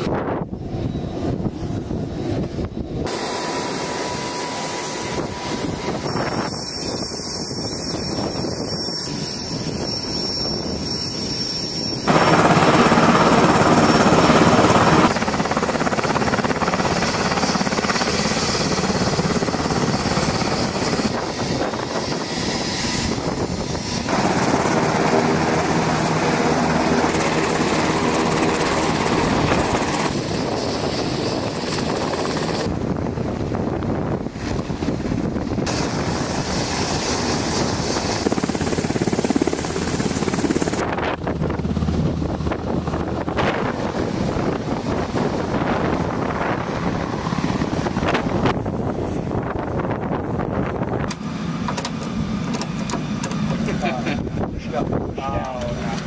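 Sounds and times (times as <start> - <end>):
helicopter turbines and rotor: 0.0 - 56.0.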